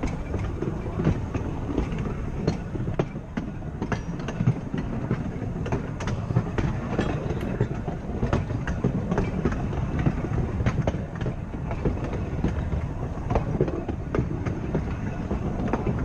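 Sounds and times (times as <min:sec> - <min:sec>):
tram wheels rumbling: 0:00.0 - 0:16.0
wheels clicking on rails: 0:00.0 - 0:16.0.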